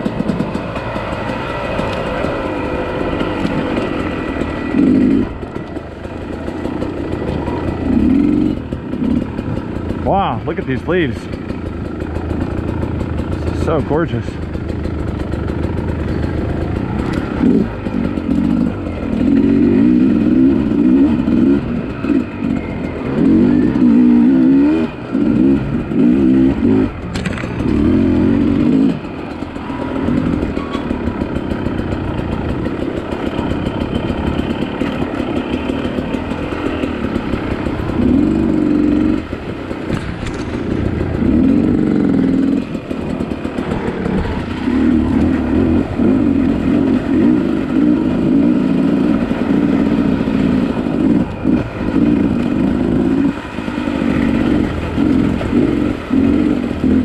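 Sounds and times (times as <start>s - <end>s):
two-stroke dirt bike revving: 0.0s - 57.0s.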